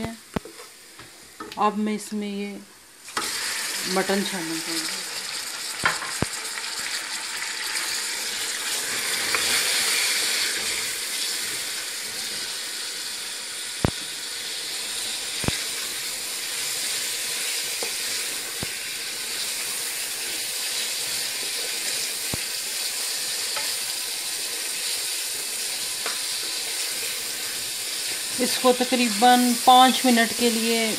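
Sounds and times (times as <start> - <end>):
meat sizzling in hot oil: 3.0 - 30.9.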